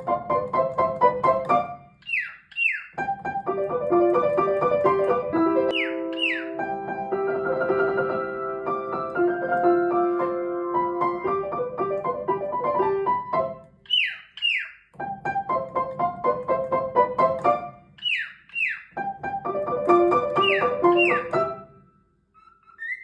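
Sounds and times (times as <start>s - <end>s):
piano melody: 0.0s - 2.0s, 2.7s - 14.2s, 14.9s - 22.3s.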